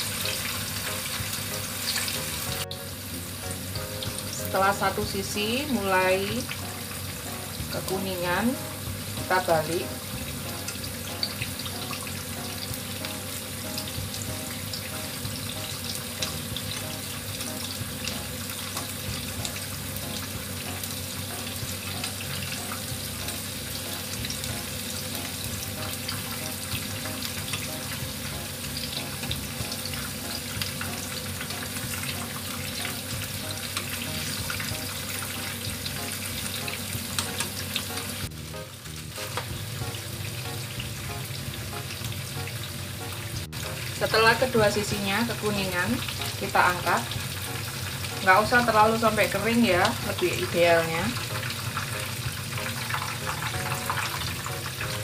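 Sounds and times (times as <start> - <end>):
tofu deep-frying in oil: 0.0 - 55.0.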